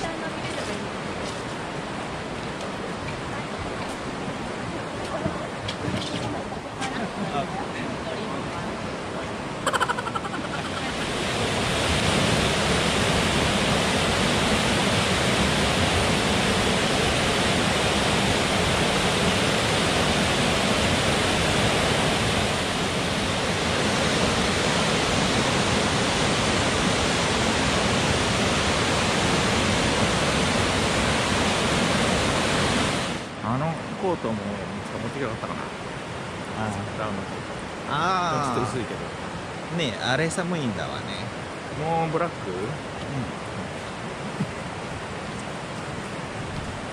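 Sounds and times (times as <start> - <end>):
river rapids rushing over boulders: 0.0 - 46.9.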